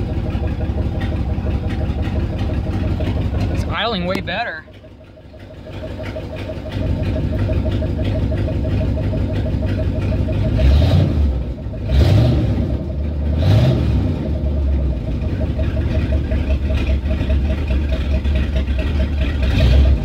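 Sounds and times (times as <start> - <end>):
engine idling and revving: 0.0 - 20.0.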